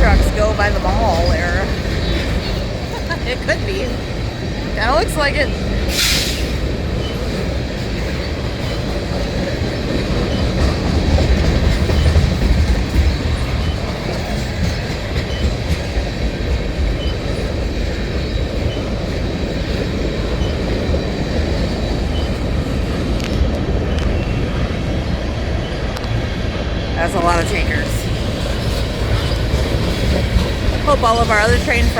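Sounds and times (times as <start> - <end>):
freight train rolling past: 0.0 - 31.9.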